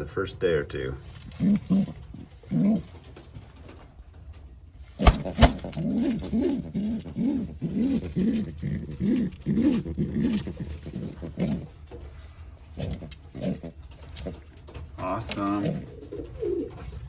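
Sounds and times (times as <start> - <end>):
pigeon cooing: 1.0 - 3.2, 4.9 - 17.0.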